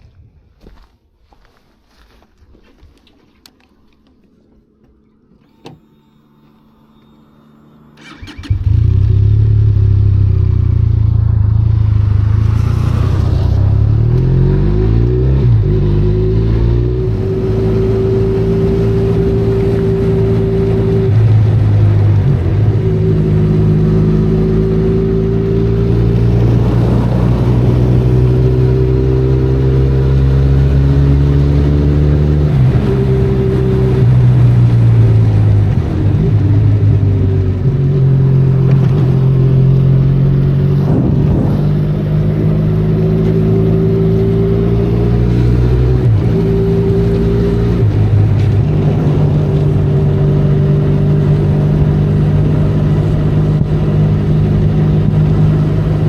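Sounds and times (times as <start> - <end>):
motorcycle engine accelerating: 4.9 - 56.0.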